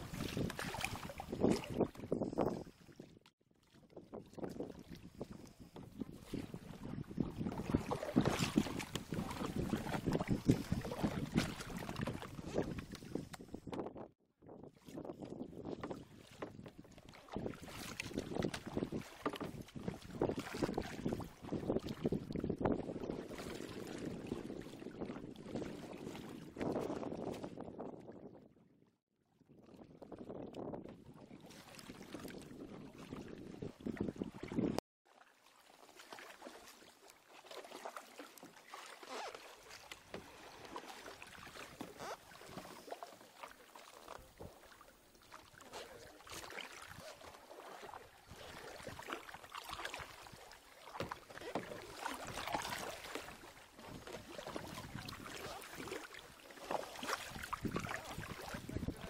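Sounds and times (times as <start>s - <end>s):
kayak paddles splashing: 0.0s - 14.0s, 14.7s - 27.7s, 29.8s - 59.0s.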